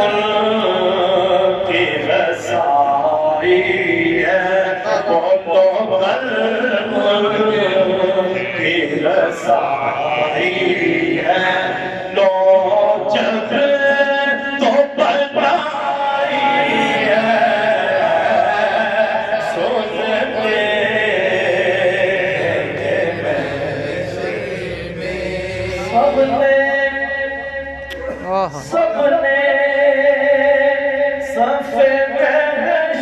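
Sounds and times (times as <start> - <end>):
man chanting devotional recitation: 0.0 - 33.0.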